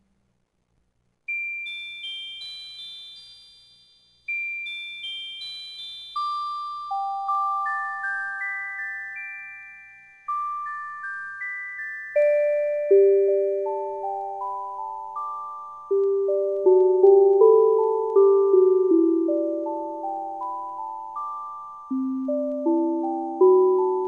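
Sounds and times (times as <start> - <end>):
music-box melody: 1.3 - 24.0.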